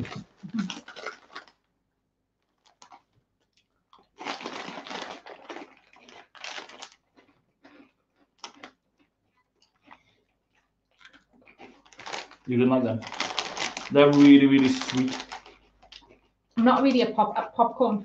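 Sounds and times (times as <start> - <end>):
plastic snack bag crinkling: 0.0 - 1.7, 2.4 - 16.9
chewing crunchy snacks: 0.0 - 16.9.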